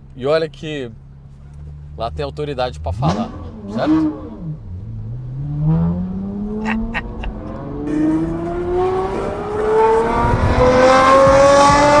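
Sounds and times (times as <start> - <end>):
car engine accelerating: 0.1 - 12.0.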